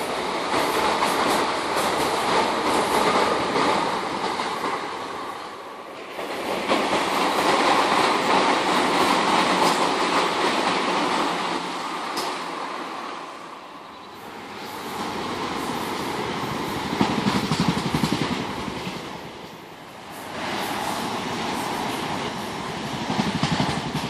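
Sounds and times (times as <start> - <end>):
train wheels rushing on rails: 0.0 - 24.0.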